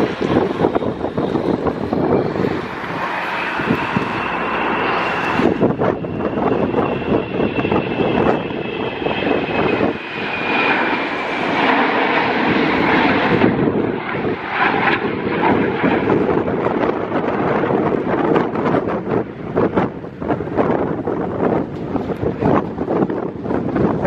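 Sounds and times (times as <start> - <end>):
jet engines whining: 0.0 - 24.0
wind buffeting microphone: 0.0 - 24.0.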